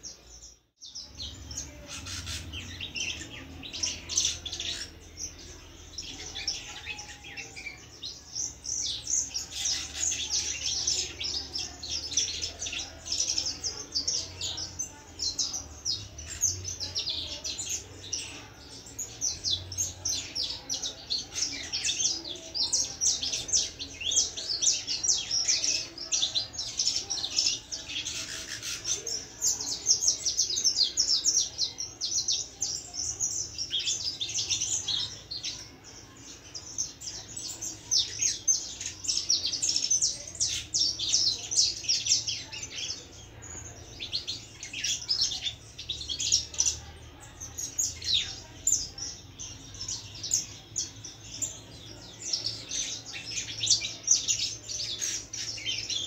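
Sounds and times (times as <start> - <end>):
canary chirping and twittering: 0.0 - 56.0.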